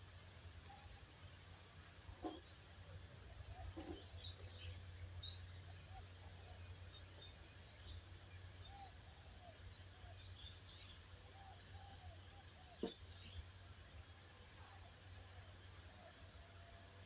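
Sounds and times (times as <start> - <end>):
birdsong chirps: 0.0 - 17.0
low steady hum: 0.0 - 17.0.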